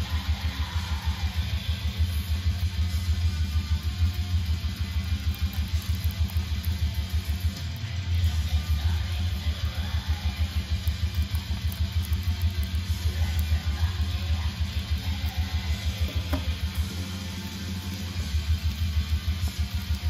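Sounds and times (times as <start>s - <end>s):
distorted guitar: 0.0s - 20.0s
fast bass drum pulses: 0.0s - 20.0s.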